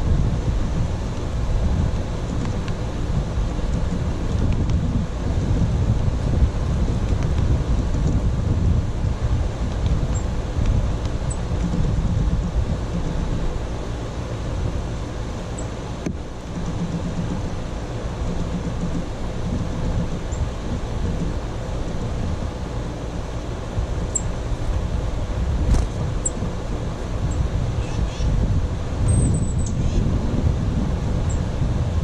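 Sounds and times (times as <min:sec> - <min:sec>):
low outdoor rumble: 0:00.0 - 0:32.0.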